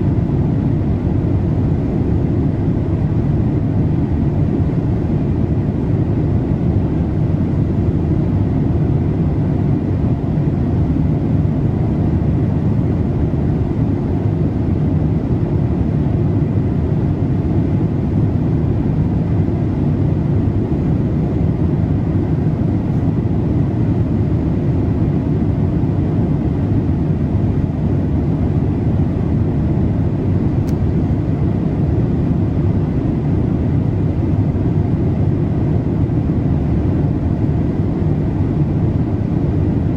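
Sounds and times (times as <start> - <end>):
airplane cabin engine rush: 0.0 - 39.9.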